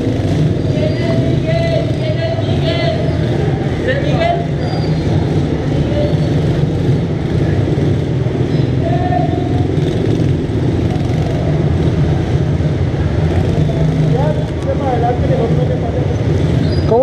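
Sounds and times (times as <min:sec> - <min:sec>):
minibike engines running: 0:00.0 - 0:17.0.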